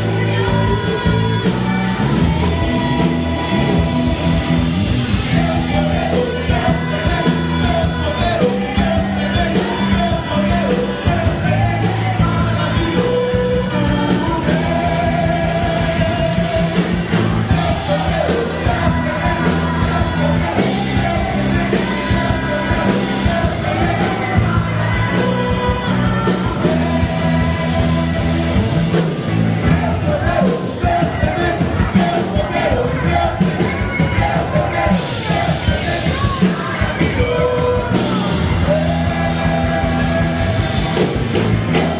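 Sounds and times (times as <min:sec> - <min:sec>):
lead singing: 0:00.0 - 0:41.9
live rock worship song: 0:00.0 - 0:41.9.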